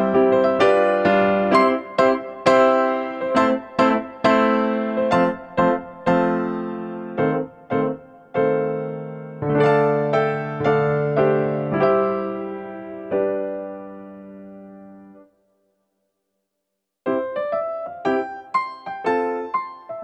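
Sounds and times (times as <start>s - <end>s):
gentle piano melody: 0.0s - 15.4s, 17.0s - 20.0s.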